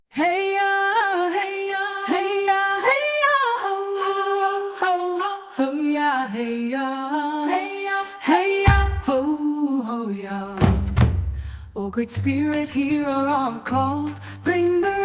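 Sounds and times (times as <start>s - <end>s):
woman singing wordless held notes: 0.2s - 11.0s, 11.8s - 15.0s.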